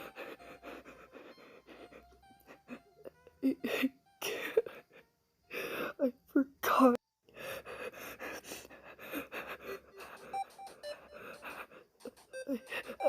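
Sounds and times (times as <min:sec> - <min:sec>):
person breathing shakily and crying: 0:00.0 - 0:06.2, 0:06.9 - 0:13.0.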